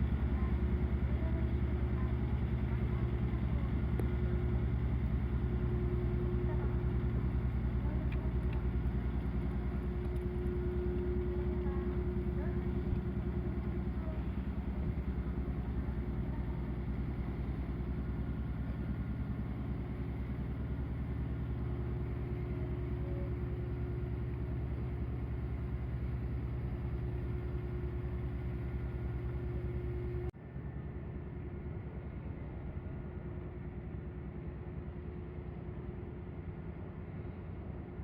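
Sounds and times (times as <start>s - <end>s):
ship engine pulsing drone: 0.0s - 38.0s.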